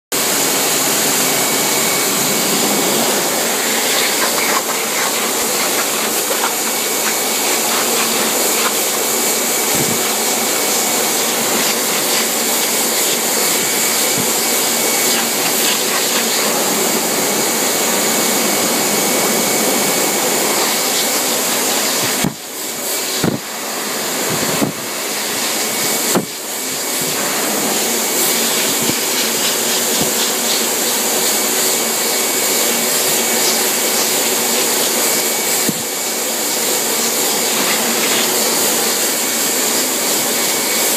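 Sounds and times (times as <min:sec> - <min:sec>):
dog blower dryer rushing air: 0:00.1 - 0:40.9.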